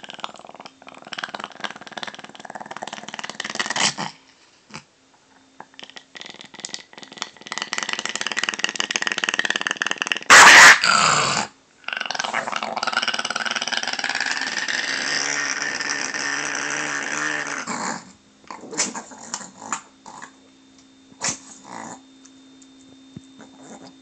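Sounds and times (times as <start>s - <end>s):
dog growling: 0.0s - 4.9s, 5.6s - 20.4s, 21.2s - 22.1s, 23.4s - 24.0s.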